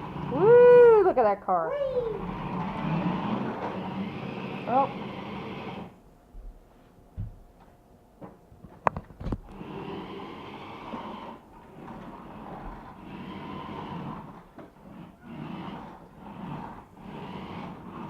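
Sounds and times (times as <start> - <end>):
toy car electric motors whirring: 0.0 - 6.0, 9.2 - 18.0.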